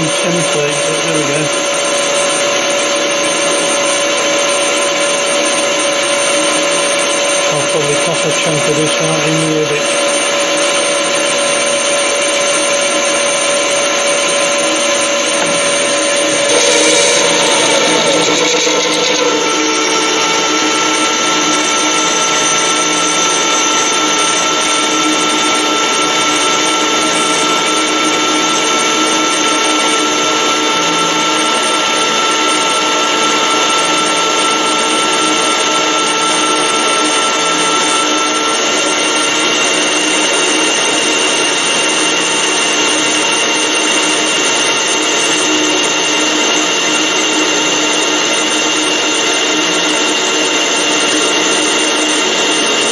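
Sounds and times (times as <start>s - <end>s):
gear and motor whine: 0.0s - 52.9s
metal lathe cutting: 0.0s - 52.9s.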